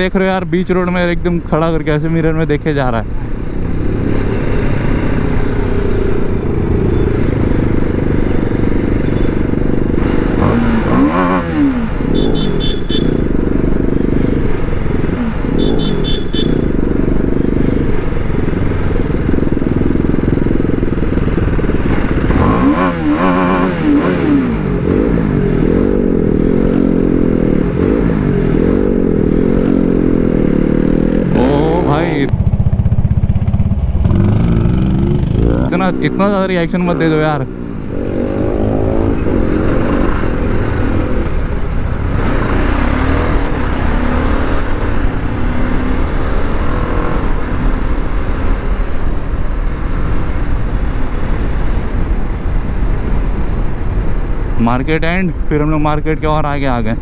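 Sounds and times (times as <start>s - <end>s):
motorcycle engine revving: 3.3s - 52.1s.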